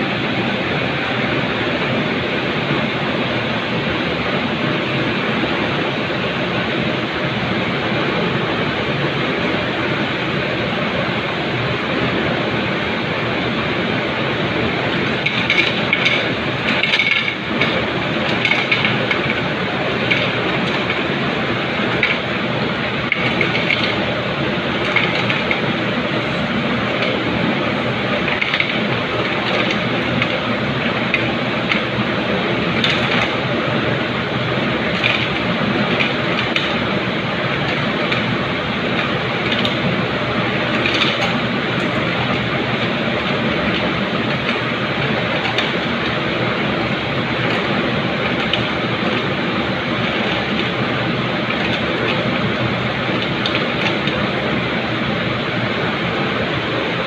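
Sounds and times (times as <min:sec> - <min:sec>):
factory machinery noise: 0:00.0 - 0:57.0.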